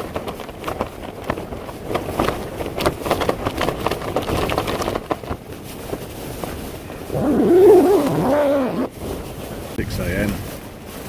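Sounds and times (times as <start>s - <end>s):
rain pattering on tent fabric: 0.0s - 11.0s
tent fabric flapping: 0.0s - 11.0s.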